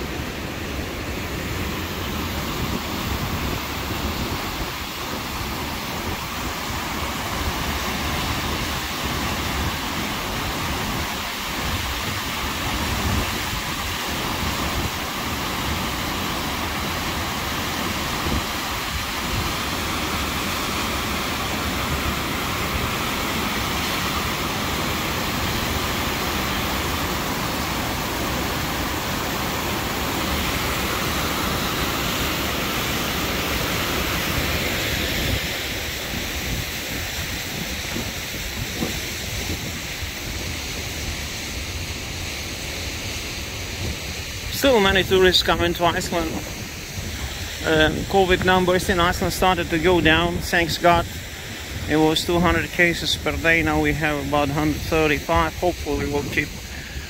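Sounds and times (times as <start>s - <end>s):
waterfall roaring: 0.0s - 57.0s
wind on microphone: 1.0s - 16.0s, 17.3s - 26.0s, 30.0s - 42.2s, 43.4s - 57.0s.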